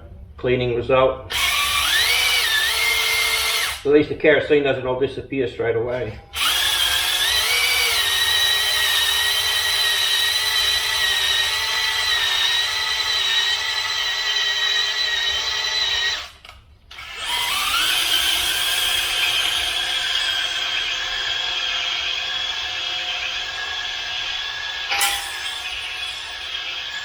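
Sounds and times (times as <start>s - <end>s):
electric drill whining: 1.3s - 3.8s, 6.4s - 27.0s.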